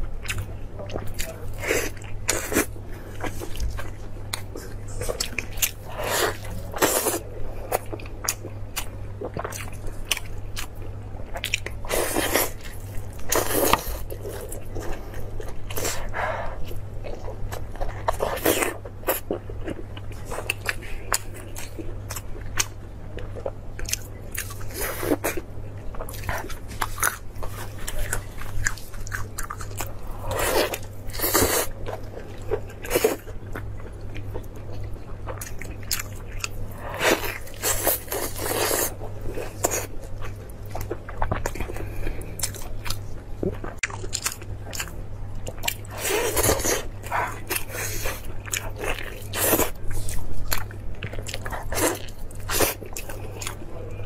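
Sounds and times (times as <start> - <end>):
low steady hum: 0.0 - 54.0
person chewing meat: 0.0 - 54.0.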